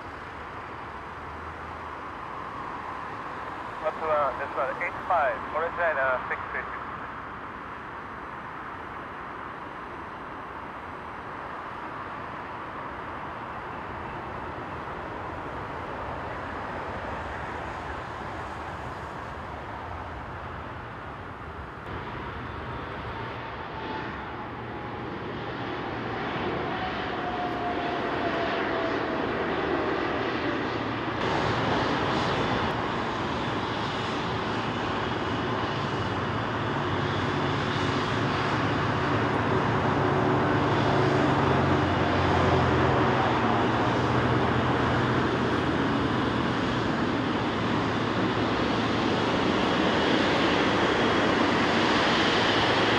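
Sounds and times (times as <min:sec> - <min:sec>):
jet engine falling whine: 0:00.0 - 0:52.9
jet engines droning at taxi: 0:00.0 - 0:52.9.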